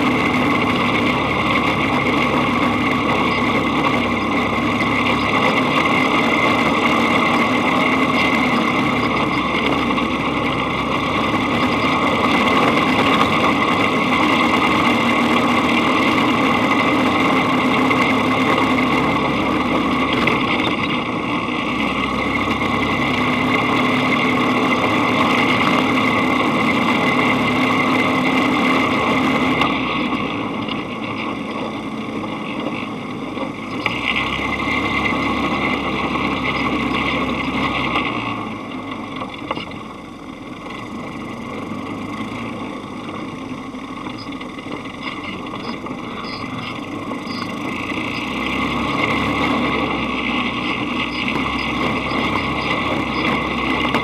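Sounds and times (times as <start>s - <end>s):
dune buggy engine running: 0.0s - 54.0s.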